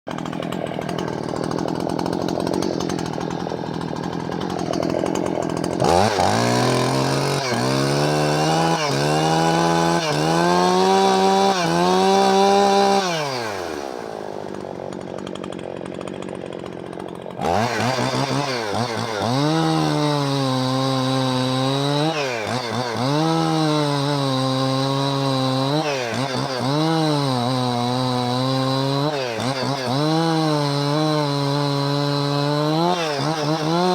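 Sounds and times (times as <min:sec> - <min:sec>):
chainsaw engine revving: 0:00.1 - 0:33.9.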